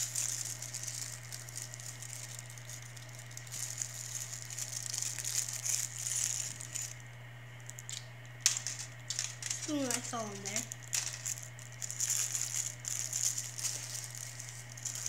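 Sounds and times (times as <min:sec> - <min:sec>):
plastic packets crinkling: 0:00.0 - 0:15.0
steady low hum: 0:00.0 - 0:15.0.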